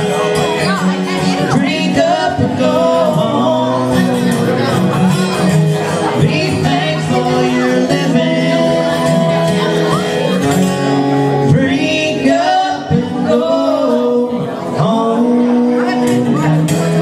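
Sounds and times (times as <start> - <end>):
strummed acoustic guitar: 0.0 - 17.0
person singing: 0.1 - 5.1, 5.8 - 10.6, 11.4 - 17.0.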